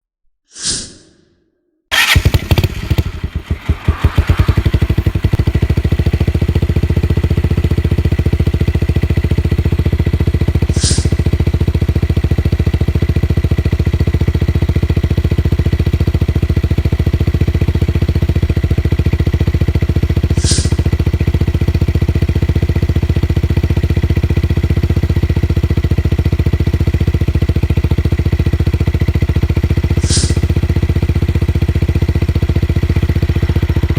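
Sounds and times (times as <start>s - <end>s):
motorcycle engine revving and idling: 1.9s - 33.9s.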